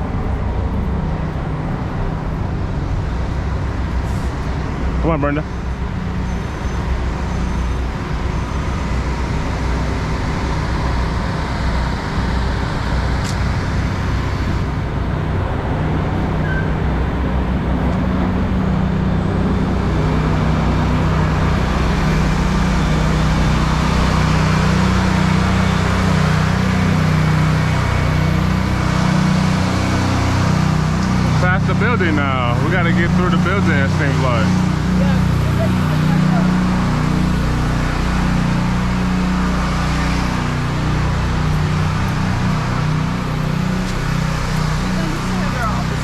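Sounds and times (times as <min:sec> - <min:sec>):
road noise: 0:00.0 - 0:46.0
car engine hum: 0:06.9 - 0:46.0.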